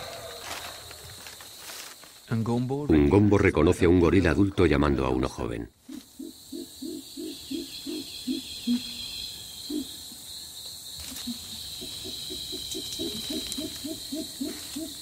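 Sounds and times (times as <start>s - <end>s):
high insect hum: 0.0s - 15.0s.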